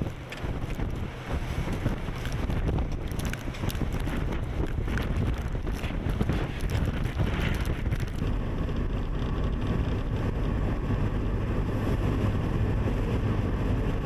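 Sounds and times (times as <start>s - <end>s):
vehicle engine rumble: 0.0s - 14.0s
wind buffeting microphone: 0.0s - 14.0s.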